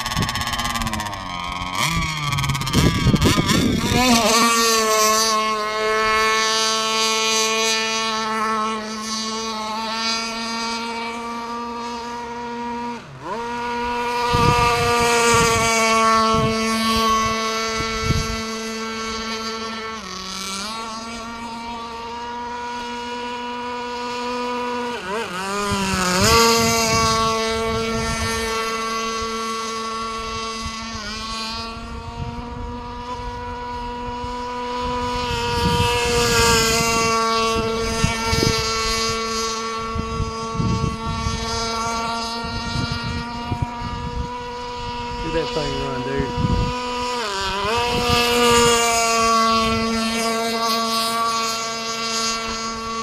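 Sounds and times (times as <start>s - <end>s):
model boat engine running: 0.0s - 53.0s.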